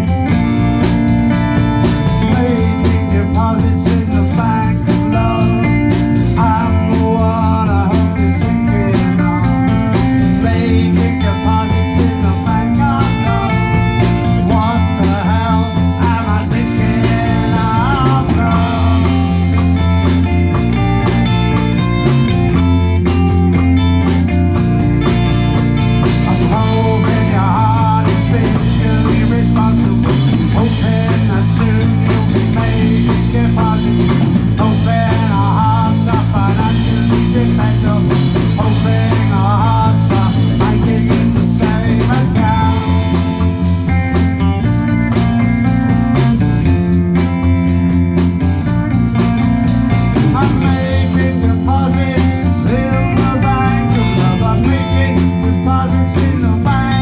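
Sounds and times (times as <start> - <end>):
bass guitar: 0.0 - 57.0
drum beat: 0.0 - 57.0
electric guitar bent notes: 0.0 - 57.0.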